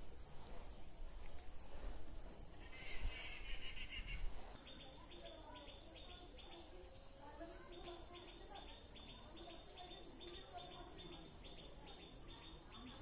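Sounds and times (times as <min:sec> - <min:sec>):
insect chorus drone: 0:00.0 - 0:13.0
rapid insect chirping: 0:00.0 - 0:13.0.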